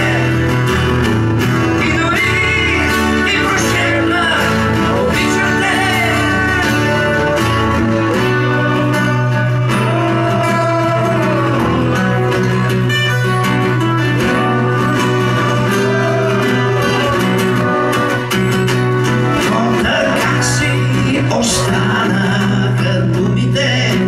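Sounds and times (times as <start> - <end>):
person singing: 0.0 - 0.9, 1.6 - 18.6, 19.2 - 24.0
acoustic guitars strummed and picked: 0.0 - 24.0.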